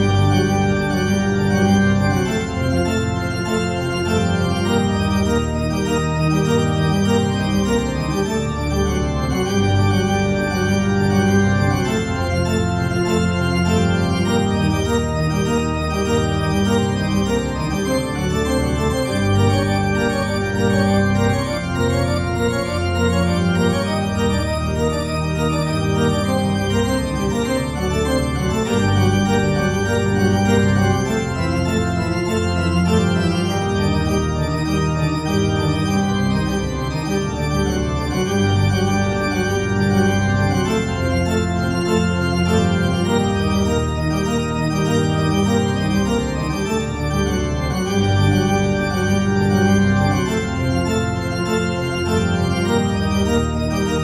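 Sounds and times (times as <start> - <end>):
organ playing slow chords: 0.0 - 54.0.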